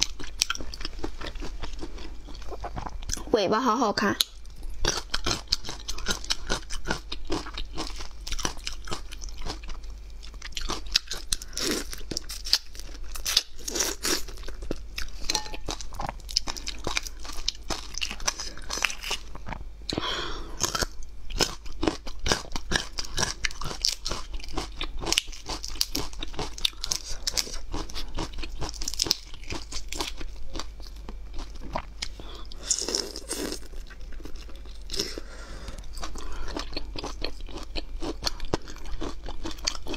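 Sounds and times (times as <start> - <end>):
chewing: 4.2 - 19.6, 20.6 - 39.9.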